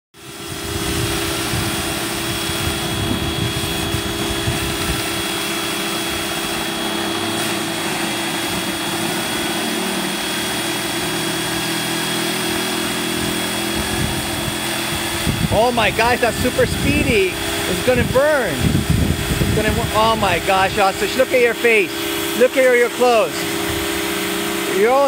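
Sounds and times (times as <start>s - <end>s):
pressure washer motor hum: 0.2s - 25.0s
water jet hissing on plastic: 0.2s - 25.0s.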